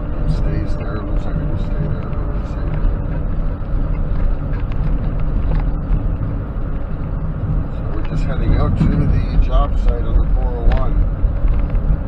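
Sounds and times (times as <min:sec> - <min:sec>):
diesel truck engine droning: 0:00.0 - 0:12.0
road rumble: 0:00.0 - 0:12.0.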